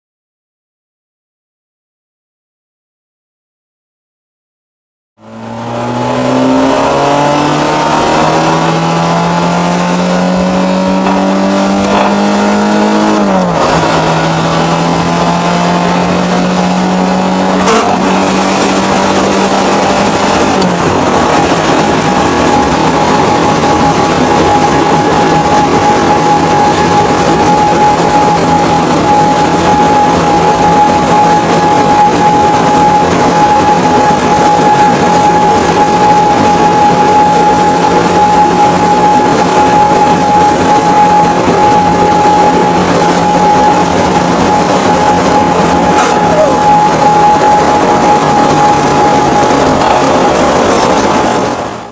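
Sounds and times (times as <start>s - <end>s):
road and wind noise: 5.2s - 51.9s
van engine accelerating: 5.2s - 51.9s
steady high whine: 5.3s - 51.9s.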